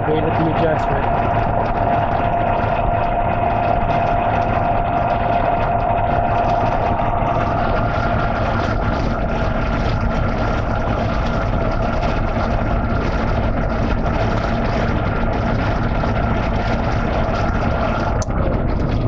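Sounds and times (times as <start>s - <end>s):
compressor whine: 0.0s - 19.0s.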